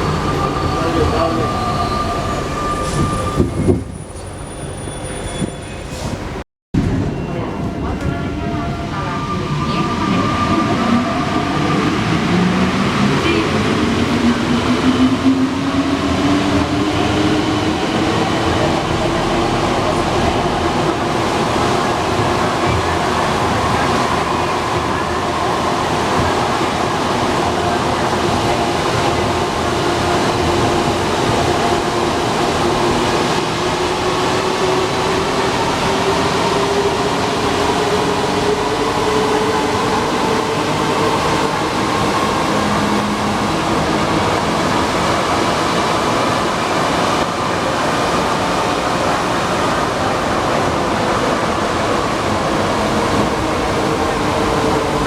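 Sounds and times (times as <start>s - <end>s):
metro train running rumble: 0.0s - 55.0s.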